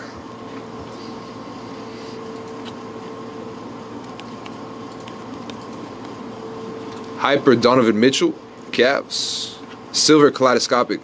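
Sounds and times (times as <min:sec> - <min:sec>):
room hum with faint tone: 0:00.0 - 0:11.0.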